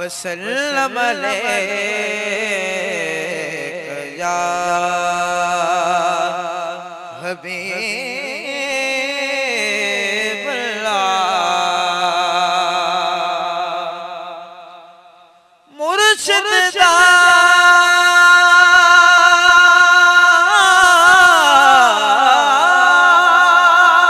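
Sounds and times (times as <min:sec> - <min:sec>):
man singing long held notes: 0:00.0 - 0:14.4, 0:15.7 - 0:24.0.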